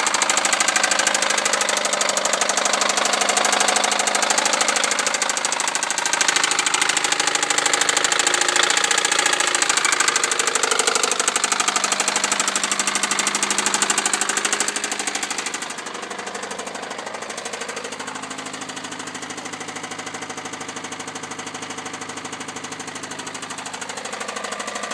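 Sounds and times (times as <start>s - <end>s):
car engine idling: 0.0s - 24.9s
rapid rhythmic engine knock: 0.0s - 24.9s.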